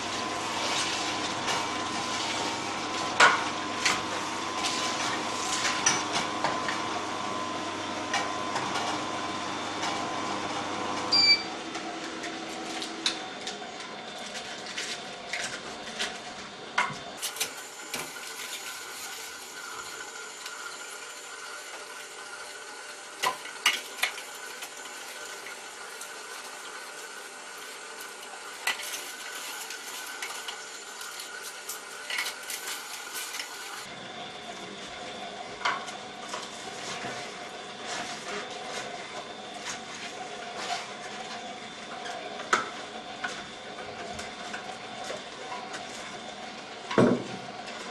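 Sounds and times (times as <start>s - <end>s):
juicer motor hum: 0.0s - 47.9s
lettuce crunching in juicer: 0.0s - 47.9s.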